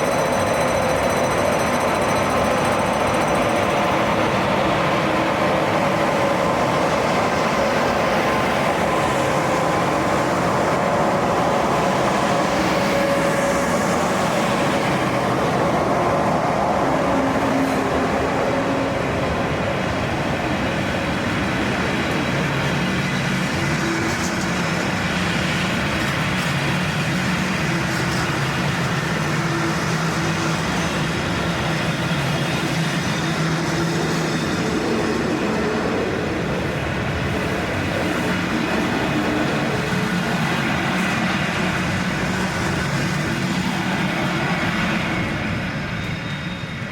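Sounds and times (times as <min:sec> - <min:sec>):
wheels on rails: 0:00.0 - 0:46.9.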